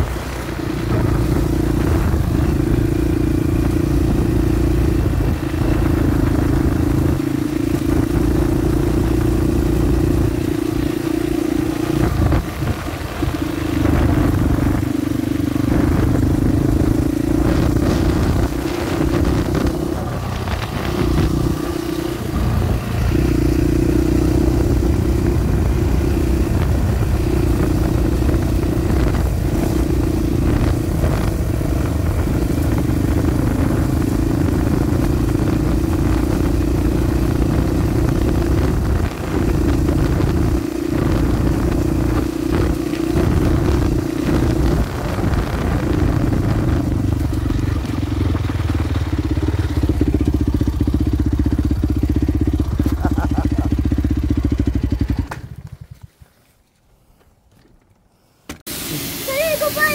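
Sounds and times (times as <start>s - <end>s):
small motorbike engine droning: 0.0s - 56.5s.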